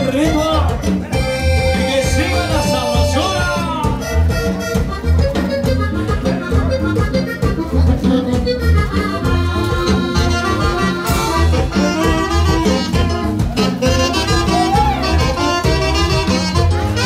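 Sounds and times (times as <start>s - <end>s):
accordion: 0.0s - 17.0s
steady bass beat: 0.0s - 17.0s.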